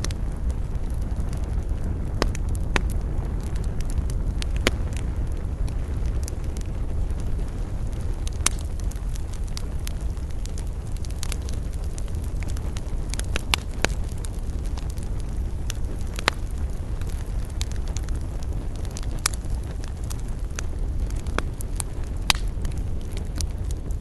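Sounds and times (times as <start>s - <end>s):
campfire crackles and pops: 0.0s - 24.0s
fire low rumble: 0.0s - 24.0s.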